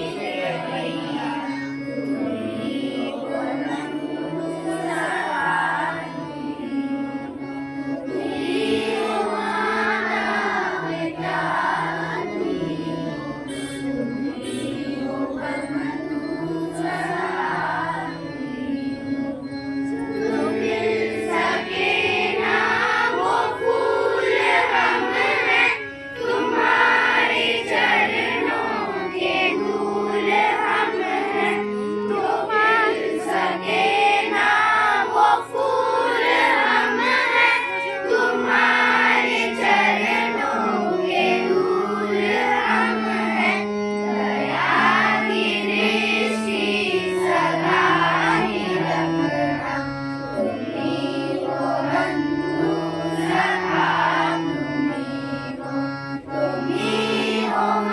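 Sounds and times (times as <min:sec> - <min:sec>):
children singing together: 0:00.0 - 0:57.9
harmonium chords: 0:00.0 - 0:57.9.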